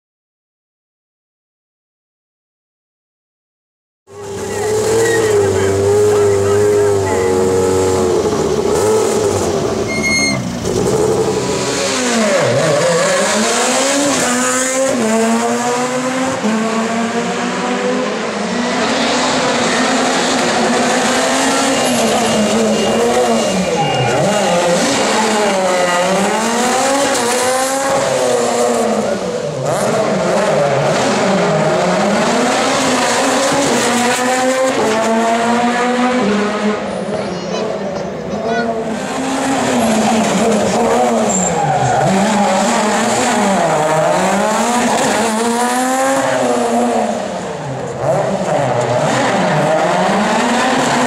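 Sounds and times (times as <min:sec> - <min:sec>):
rally car engine revving: 0:04.1 - 0:51.0.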